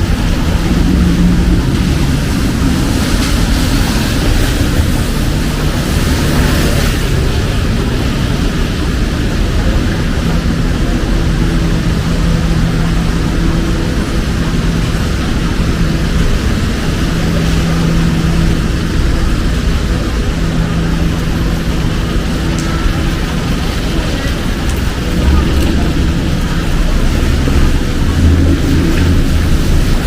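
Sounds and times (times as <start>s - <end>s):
heavy rain pouring: 0.0s - 30.0s
low engine hum: 0.0s - 30.0s.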